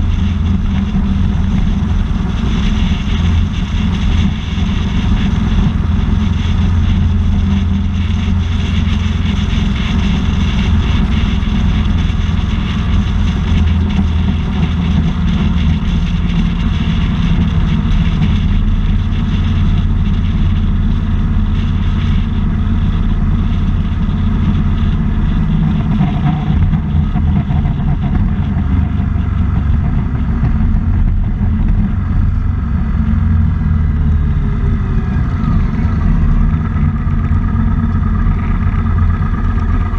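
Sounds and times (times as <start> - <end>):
motorcycle engine: 0.0 - 39.9
wind noise: 0.0 - 39.9.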